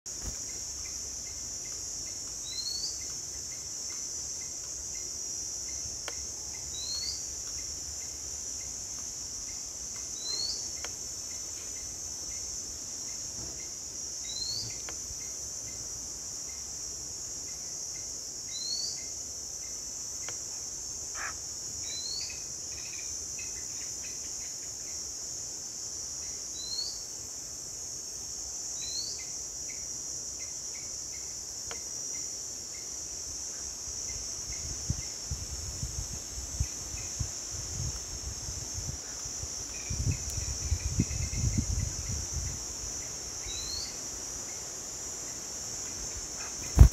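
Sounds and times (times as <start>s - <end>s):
insect chorus: 0.1s - 46.9s.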